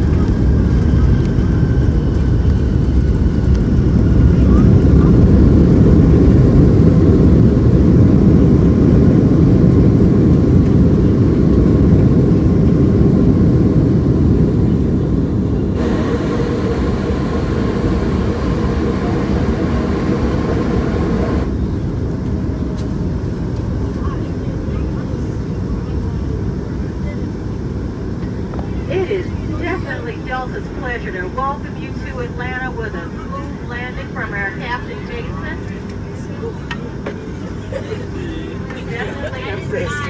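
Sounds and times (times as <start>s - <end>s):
aircraft cabin engine rumble: 0.0s - 40.0s.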